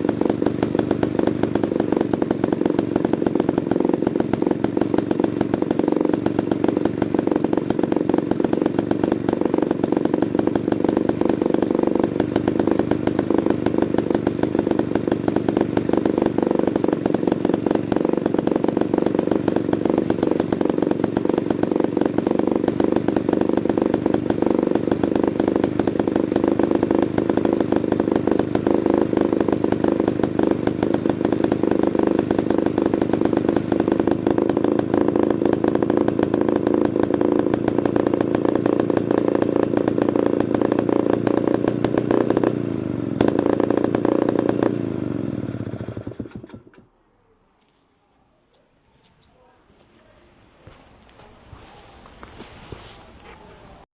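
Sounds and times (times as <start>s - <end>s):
chainsaw engine running: 0.0s - 46.8s.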